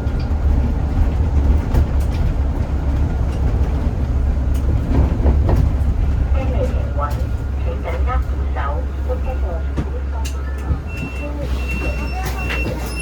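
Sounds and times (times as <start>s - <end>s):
bus rumbling from inside: 0.0s - 13.0s.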